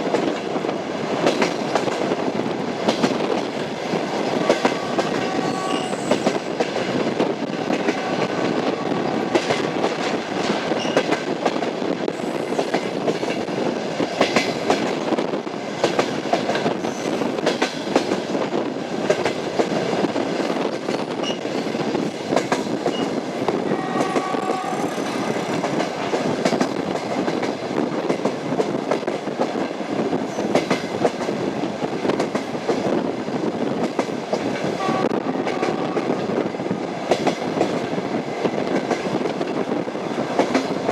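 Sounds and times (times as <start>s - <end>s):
train wheels clattering: 0.0s - 31.4s, 33.8s - 40.9s.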